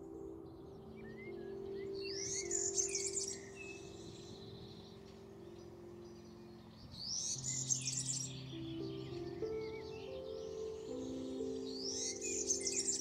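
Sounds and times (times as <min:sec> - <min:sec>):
soft background music: 0:00.0 - 0:13.0
songbird singing: 0:00.0 - 0:13.0.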